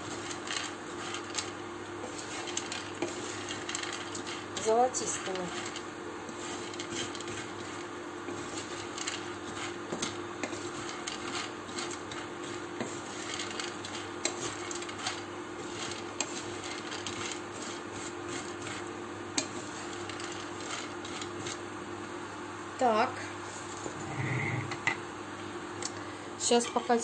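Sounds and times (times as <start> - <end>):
pasta rattling in pan: 0.0 - 21.6
wooden spatula scraping pan: 0.0 - 21.6, 23.5 - 24.8, 26.4 - 27.0
steady low hum: 0.0 - 27.0.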